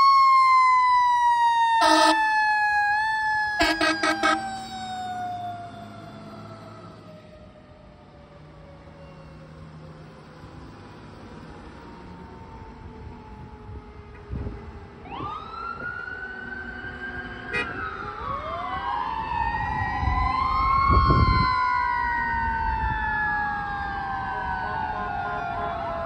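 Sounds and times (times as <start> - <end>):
emergency sirens wailing: 0.0 - 26.0.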